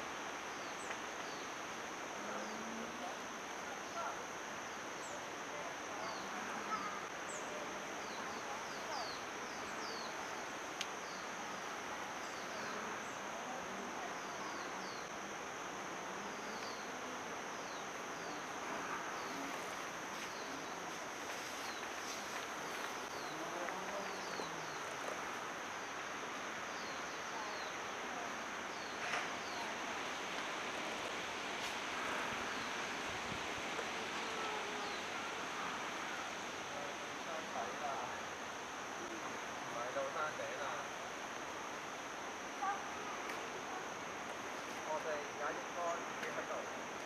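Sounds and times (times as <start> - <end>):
low background noise: 0.0 - 47.0.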